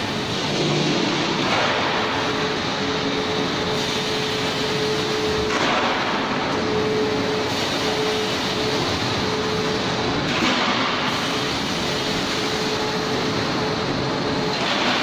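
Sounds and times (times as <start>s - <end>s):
production line hiss: 0.0s - 10.0s, 10.7s - 14.9s.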